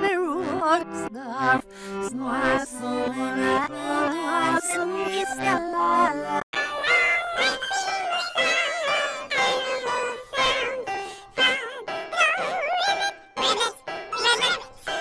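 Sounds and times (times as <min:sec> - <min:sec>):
children's song music: 0:00.0 - 0:15.0
distorted singing voice: 0:00.0 - 0:15.0.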